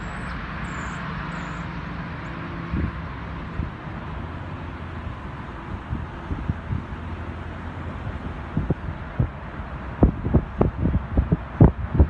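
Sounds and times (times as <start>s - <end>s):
car driving road noise: 0.0s - 12.0s.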